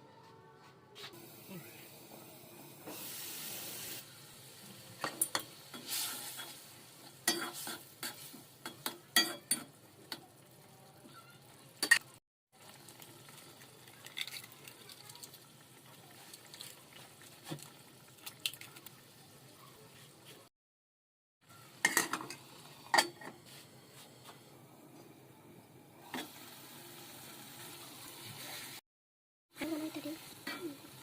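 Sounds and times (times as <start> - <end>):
food sizzling in a pan: 1.1 - 20.5, 21.4 - 28.8, 29.5 - 31.0.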